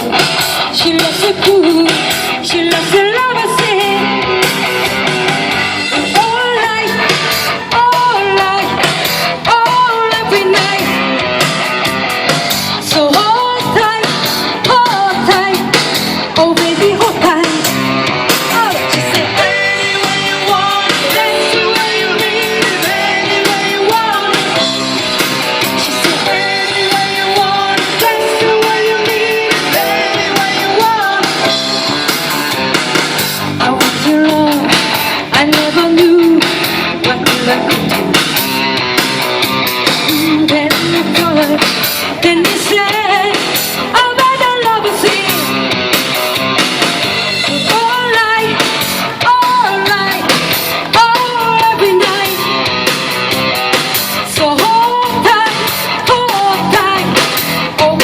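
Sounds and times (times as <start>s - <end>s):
person singing: 0.0s - 4.4s, 5.8s - 11.0s, 12.8s - 17.8s, 18.4s - 38.4s, 40.0s - 45.6s, 46.8s - 52.6s, 53.6s - 58.0s
electric guitar: 0.0s - 58.0s
live rock band music: 0.0s - 58.0s.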